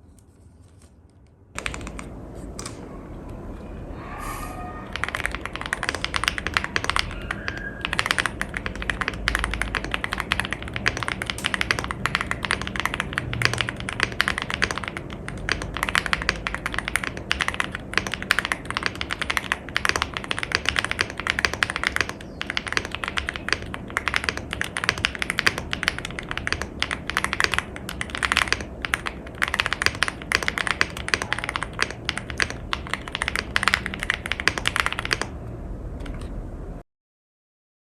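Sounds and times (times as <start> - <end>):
mechanical keyboard typing: 1.6 - 2.9, 4.8 - 36.4.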